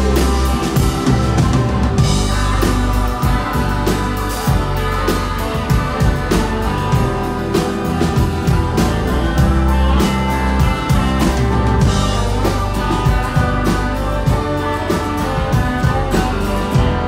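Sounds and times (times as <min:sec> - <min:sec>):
drum kit beat: 0:00.0 - 0:17.0
electric bass: 0:00.0 - 0:17.0
electric guitar: 0:00.0 - 0:17.0.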